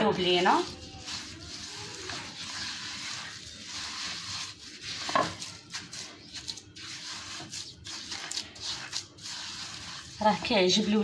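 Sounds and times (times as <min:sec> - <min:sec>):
gritty scraping of sugar in dish: 0:00.0 - 0:11.0.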